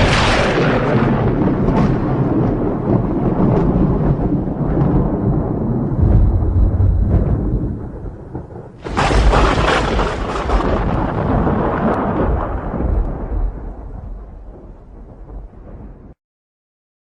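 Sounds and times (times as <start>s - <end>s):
thunder crack: 0.0s - 16.2s
thunder rumbling: 0.0s - 16.2s.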